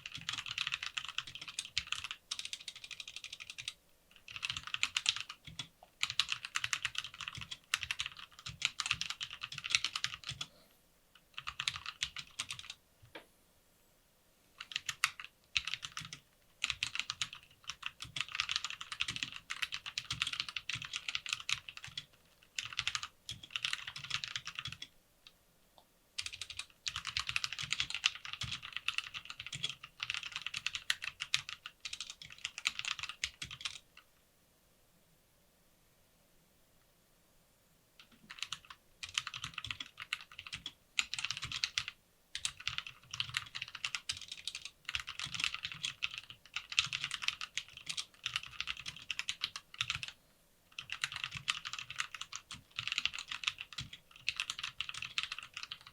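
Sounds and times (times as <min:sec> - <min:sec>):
rapid keyboard key clicks: 0:00.0 - 0:10.5, 0:11.4 - 0:12.8, 0:14.6 - 0:24.9, 0:26.2 - 0:33.8, 0:38.0 - 0:55.9.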